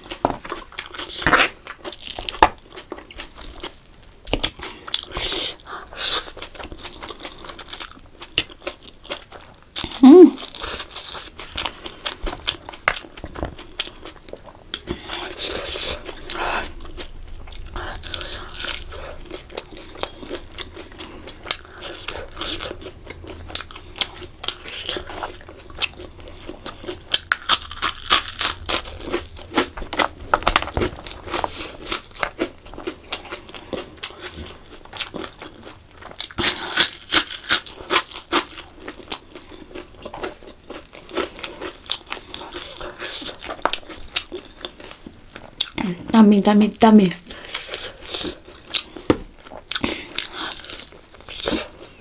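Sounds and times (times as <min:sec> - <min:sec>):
close chewing and crunching food: 0:00.0 - 0:52.0.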